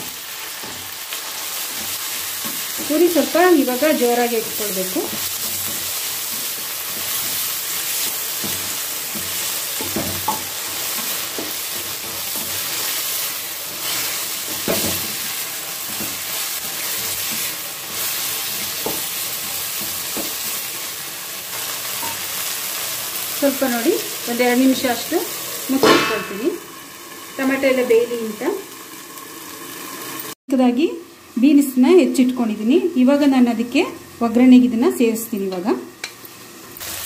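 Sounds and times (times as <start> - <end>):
vegetables sizzling in a pan: 0.0 - 37.0.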